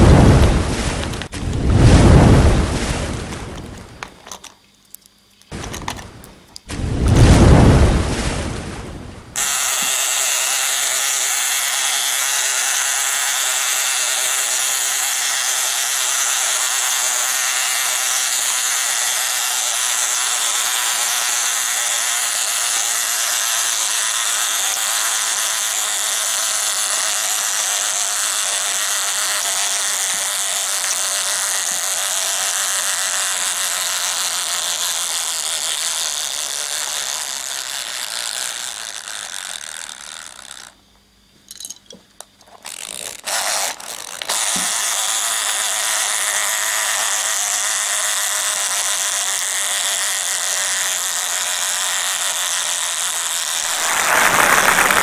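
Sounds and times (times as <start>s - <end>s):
toy gear mechanism clattering: 4.0s - 6.7s, 9.4s - 40.8s, 41.5s - 55.0s.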